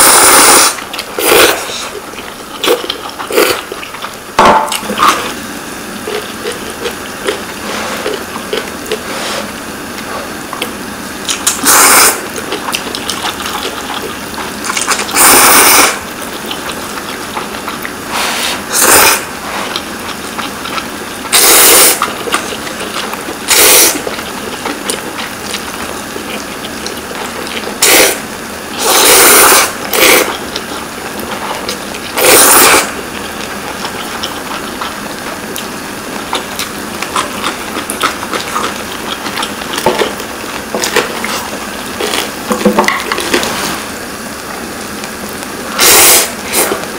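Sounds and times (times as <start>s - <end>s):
people slurping noodles: 0.0s - 44.0s, 45.7s - 46.9s.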